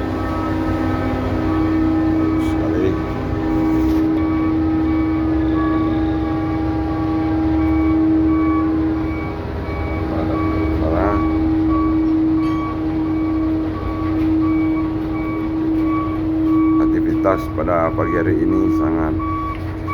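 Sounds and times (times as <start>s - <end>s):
heavy machinery droning: 0.0s - 19.9s.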